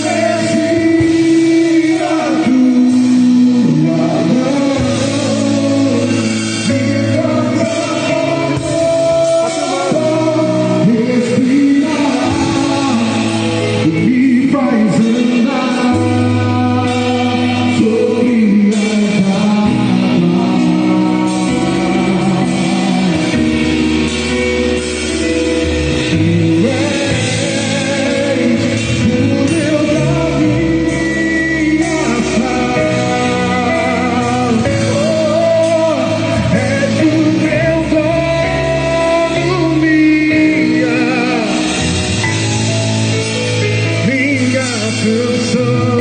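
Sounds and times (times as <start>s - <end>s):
band accompaniment: 0.0s - 46.0s
gospel singing: 0.0s - 46.0s.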